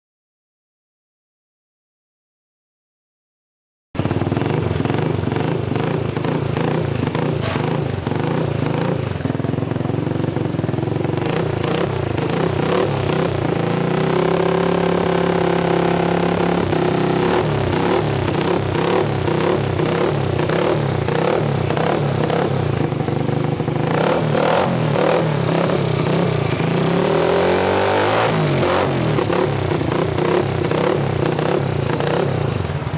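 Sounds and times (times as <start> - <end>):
motorcycle engine revving: 4.0 - 32.9.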